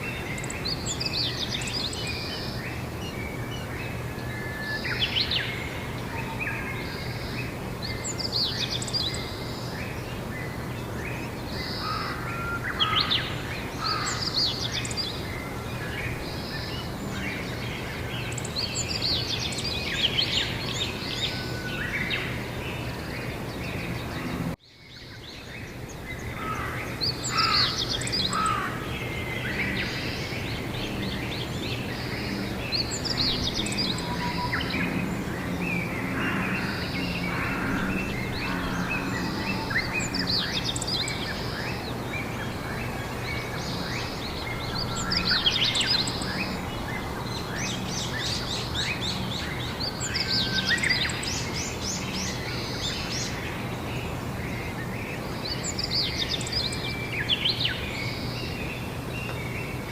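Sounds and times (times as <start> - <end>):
birds chirping and trilling: 0.0 - 59.9
outdoor background hiss: 0.0 - 59.9.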